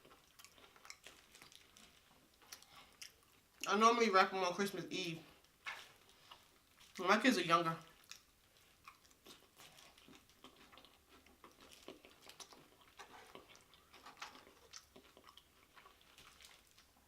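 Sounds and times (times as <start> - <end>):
chewing and crunching chips: 0.0 - 3.9, 4.9 - 17.0.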